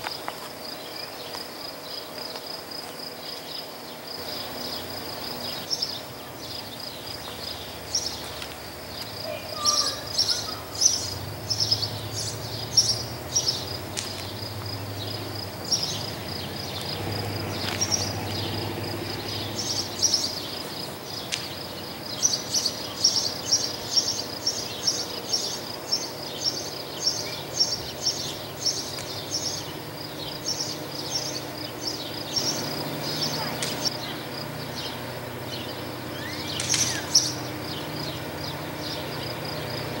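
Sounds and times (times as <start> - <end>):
birds chirping: 0.0 - 40.0
faint distant locomotive rumble: 0.0 - 40.0
insect buzz: 0.0 - 40.0.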